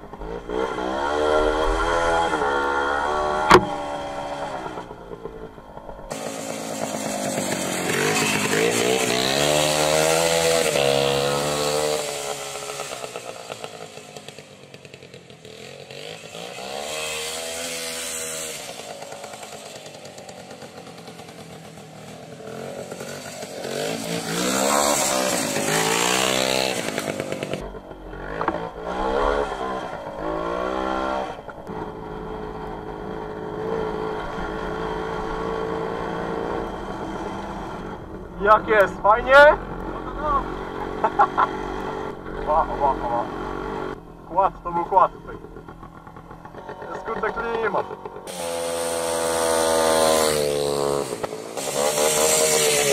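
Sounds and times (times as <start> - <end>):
two-stroke motorcycle engine revving: 0.0 - 52.9.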